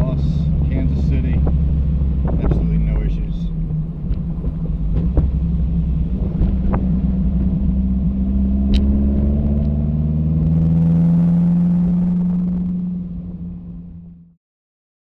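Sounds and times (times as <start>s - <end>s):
car engine pulling steadily: 0.0s - 14.3s.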